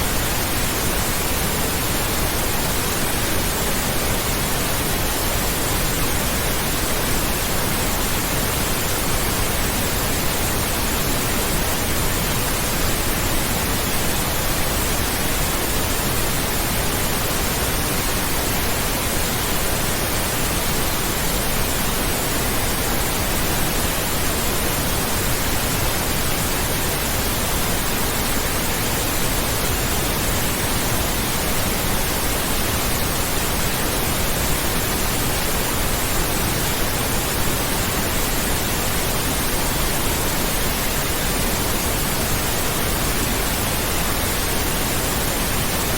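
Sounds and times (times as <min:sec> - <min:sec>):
pink noise hiss: 0:00.0 - 0:45.9.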